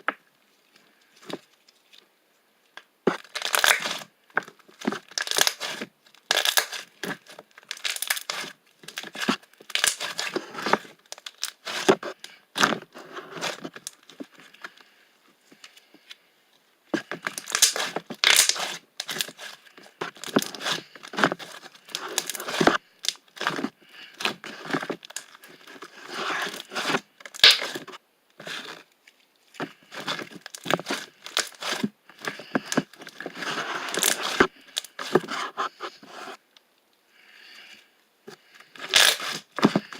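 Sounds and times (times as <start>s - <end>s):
paper or plastic crinkling: 3.1s - 14.8s, 17.0s - 36.4s, 38.6s - 39.9s.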